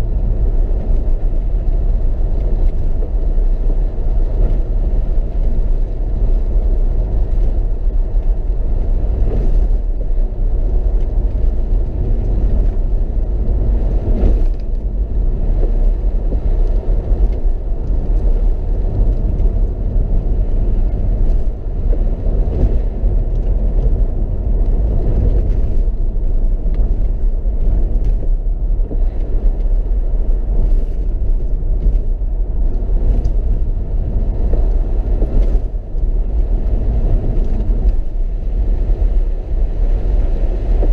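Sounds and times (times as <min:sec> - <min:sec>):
car engine rumble: 0:00.0 - 0:40.9
tyre noise on wet road: 0:00.0 - 0:40.9.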